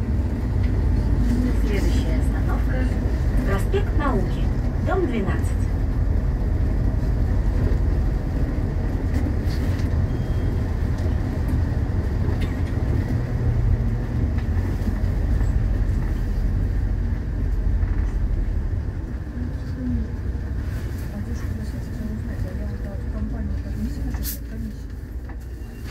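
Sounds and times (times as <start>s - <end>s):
bus engine rumble: 0.0s - 25.9s
road noise: 0.0s - 25.9s.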